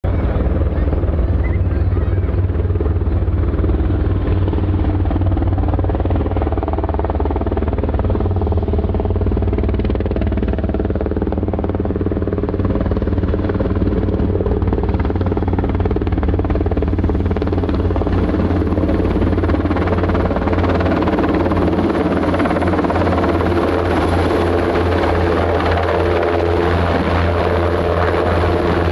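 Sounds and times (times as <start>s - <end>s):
helicopter rotors and engines: 0.0s - 28.9s.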